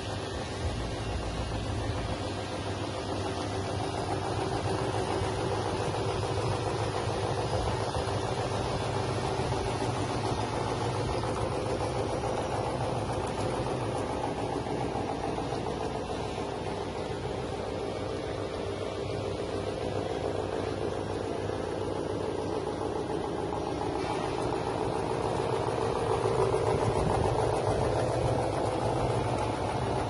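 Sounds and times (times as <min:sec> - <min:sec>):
plucking machine motor humming: 0:00.0 - 0:30.0.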